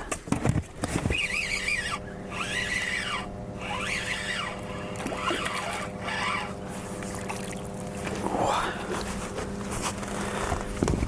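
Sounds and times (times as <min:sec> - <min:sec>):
small motor humming: 0:00.6 - 0:11.0.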